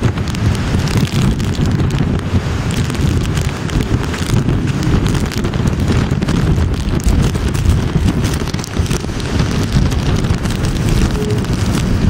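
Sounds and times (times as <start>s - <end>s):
rain hiss: 0.0s - 12.0s
strong wind buffeting microphone: 0.0s - 12.0s.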